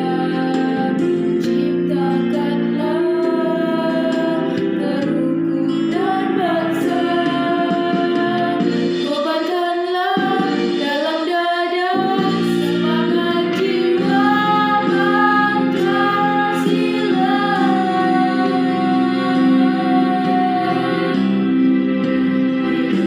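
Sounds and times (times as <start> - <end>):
woman singing: 0.0 - 23.0.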